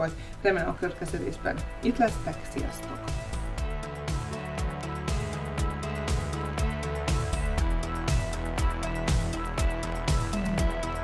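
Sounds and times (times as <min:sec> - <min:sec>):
music with steady drum beat: 0:00.0 - 0:11.0.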